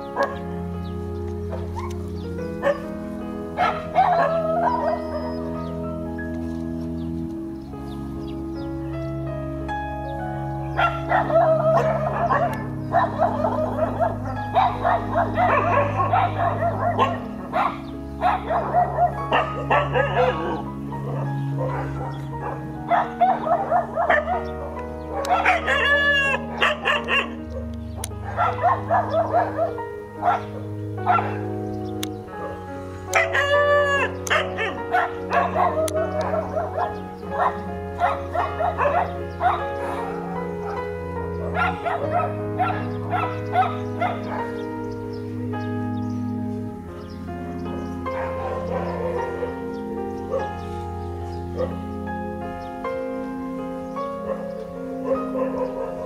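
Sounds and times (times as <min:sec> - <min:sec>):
dogs barking and yelping: 0:00.0 - 0:08.8, 0:09.6 - 0:56.0
music with low sustained notes: 0:00.0 - 0:56.0.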